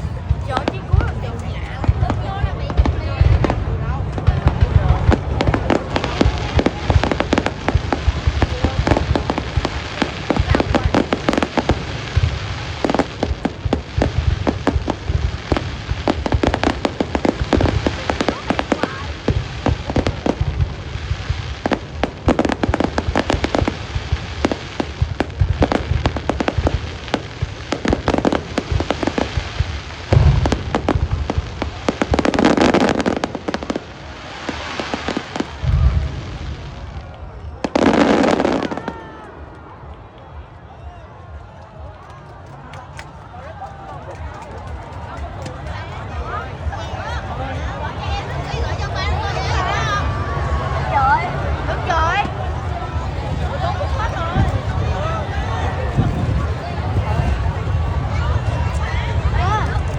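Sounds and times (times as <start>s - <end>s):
fireworks booms: 0.0s - 59.9s
fireworks crackling and popping: 0.0s - 59.9s.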